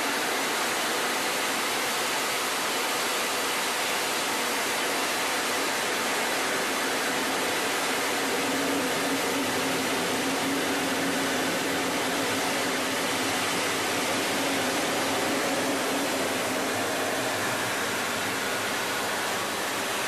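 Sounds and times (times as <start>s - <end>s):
cockpit airflow hiss: 0.0s - 20.0s
faint steady hum: 0.0s - 20.0s.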